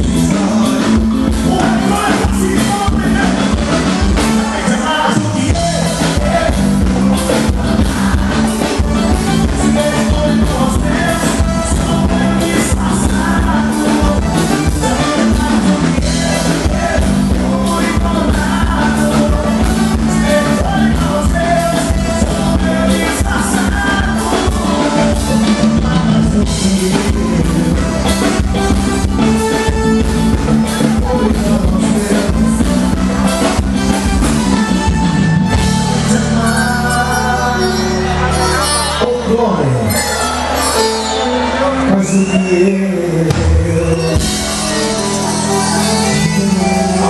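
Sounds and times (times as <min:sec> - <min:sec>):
person singing: 0:00.0 - 0:33.7, 0:34.5 - 0:47.0
drum kit beat: 0:00.0 - 0:36.5, 0:43.2 - 0:47.0
live band music: 0:00.0 - 0:47.0.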